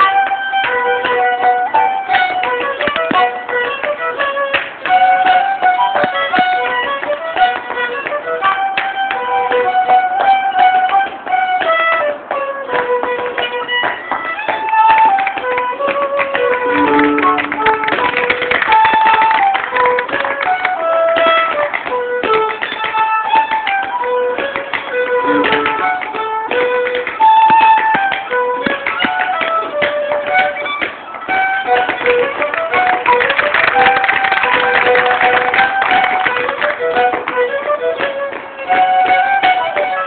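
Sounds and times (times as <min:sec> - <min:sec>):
fiddle dance tune: 0:00.0 - 0:40.0
sharp taps: 0:00.0 - 0:40.0.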